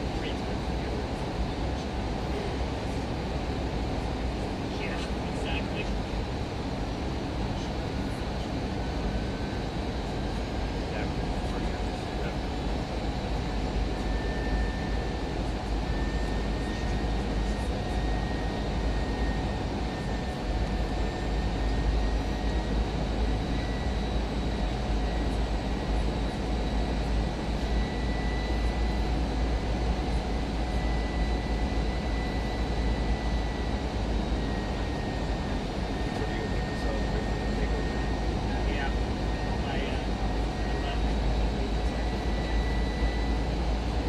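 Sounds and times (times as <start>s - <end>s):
airliner cabin engine rumble: 0.0s - 44.0s
thin wavering whine: 0.0s - 44.0s.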